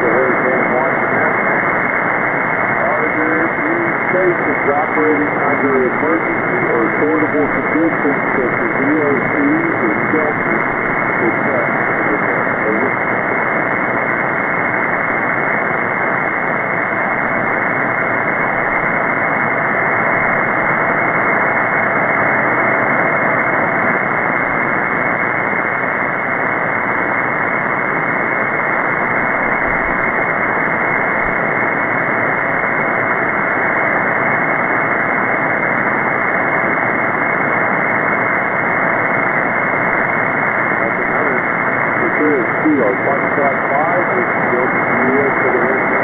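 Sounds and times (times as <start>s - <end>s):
shortwave radio hiss: 0.0s - 46.0s.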